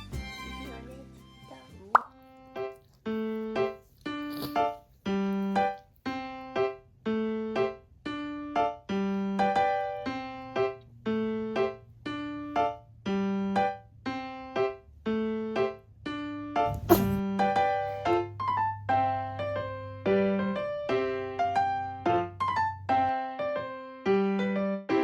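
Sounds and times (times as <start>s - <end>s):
light keyboard melody: 0.0s - 25.0s.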